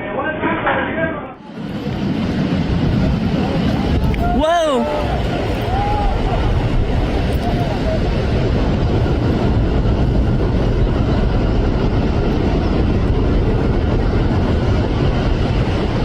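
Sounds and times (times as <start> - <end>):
loud low rumbling: 1.4 - 16.0.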